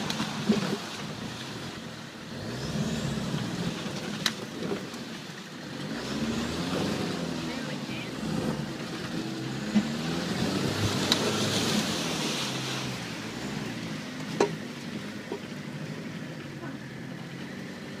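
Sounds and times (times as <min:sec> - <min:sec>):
vehicle engine under load: 0:00.0 - 0:18.0
water rushing and splashing: 0:00.0 - 0:18.0.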